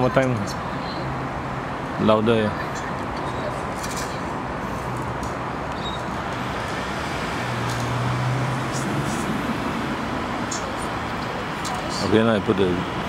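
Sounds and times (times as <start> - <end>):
road traffic noise: 0.0 - 13.0
vehicle engine hum: 0.0 - 13.0.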